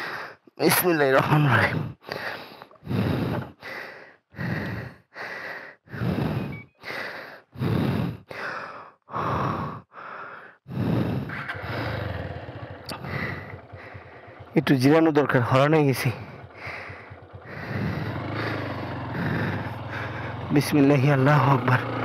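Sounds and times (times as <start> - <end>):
man panting heavily: 0.0 - 0.6, 1.4 - 14.6, 16.0 - 20.9.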